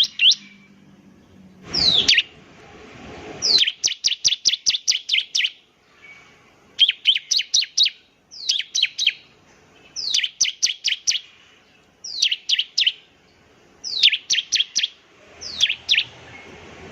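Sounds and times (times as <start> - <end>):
bird singing sharp descending notes: 0.0 - 2.4, 3.3 - 11.3, 12.0 - 13.1, 13.8 - 16.9.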